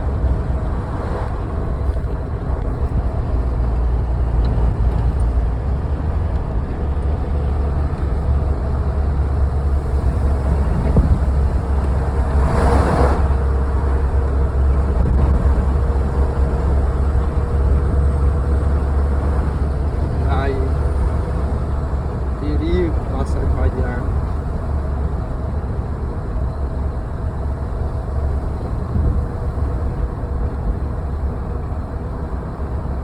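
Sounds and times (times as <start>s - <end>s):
vehicle and road drone: 0.0s - 33.0s
wind buffeting microphone: 0.0s - 33.0s.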